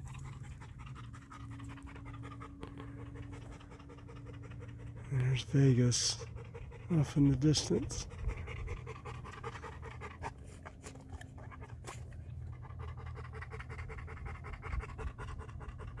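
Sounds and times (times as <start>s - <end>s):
low steady rumble: 0.0s - 16.0s
rapid rhythmic panting: 0.0s - 16.0s.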